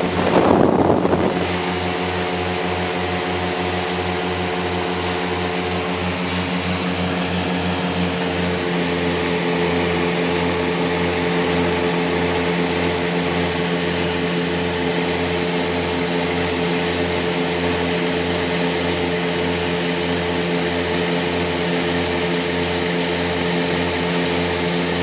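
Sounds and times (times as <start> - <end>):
aircraft engines droning in cabin: 0.0 - 25.0.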